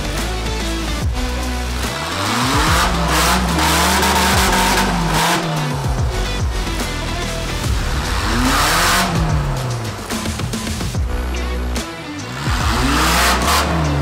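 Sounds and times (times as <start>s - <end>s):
background music: 0.0s - 14.0s
truck engine revving: 0.0s - 14.0s.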